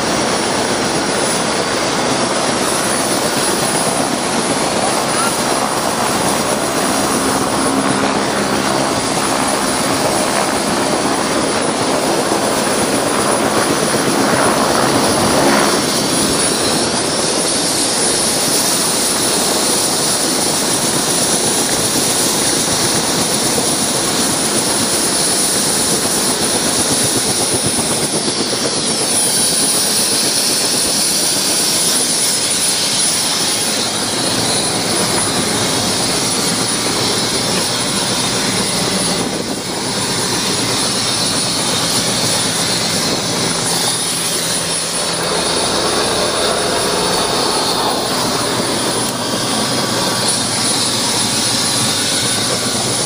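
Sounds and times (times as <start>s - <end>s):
high whine: 0.0s - 22.0s, 30.7s - 53.0s
helicopter engine and rotor: 0.0s - 53.0s.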